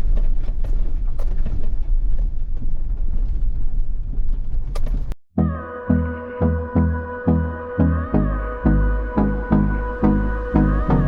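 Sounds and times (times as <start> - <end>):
low rumbling noise: 0.0 - 11.0.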